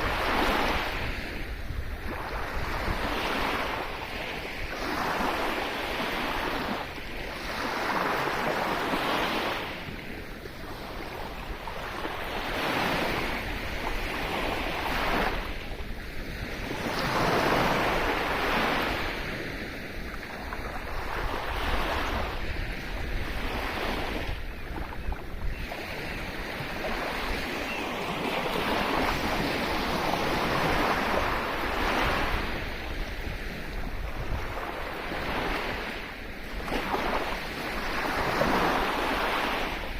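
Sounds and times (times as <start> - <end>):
sea waves breaking: 0.0 - 39.9
wind rumble on microphone: 0.0 - 39.9.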